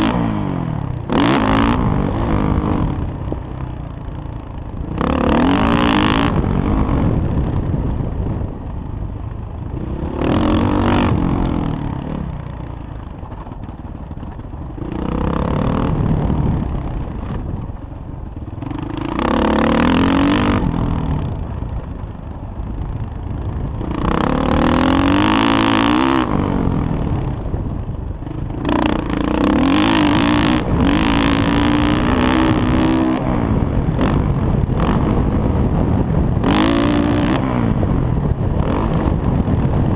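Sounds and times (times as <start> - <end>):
dirt bike engine revving: 0.0 - 7.9, 9.6 - 17.5, 18.3 - 21.8, 22.9 - 27.5, 28.2 - 39.9.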